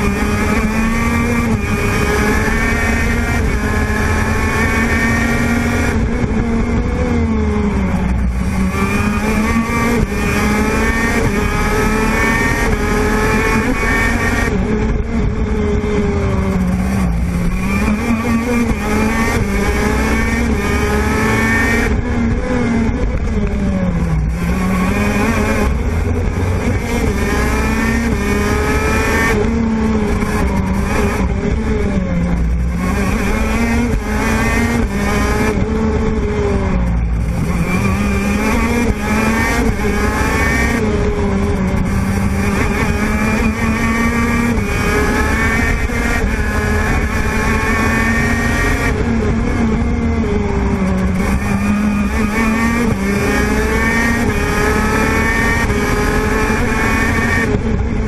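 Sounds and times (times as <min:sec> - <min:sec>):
two-stroke kart engine revving: 0:00.0 - 0:58.0.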